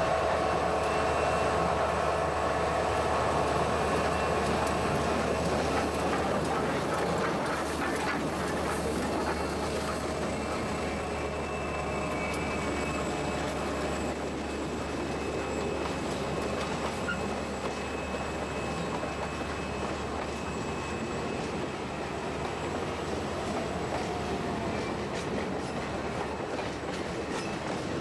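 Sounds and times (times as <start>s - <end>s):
train passing: 0.0s - 28.0s
wheels squealing on rail: 0.0s - 28.0s.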